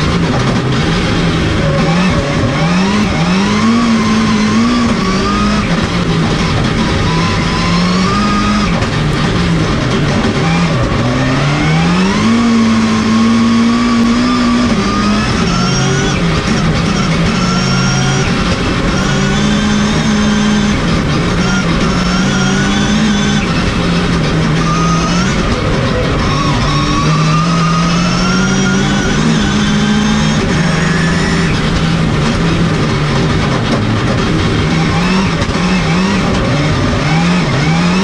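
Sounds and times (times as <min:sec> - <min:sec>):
high whine: 0:00.0 - 0:38.0
race car engine at speed: 0:00.0 - 0:38.0.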